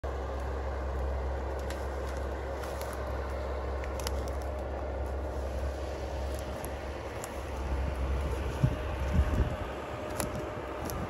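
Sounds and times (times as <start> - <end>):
distant machine engine rumbling: 0.0 - 11.0.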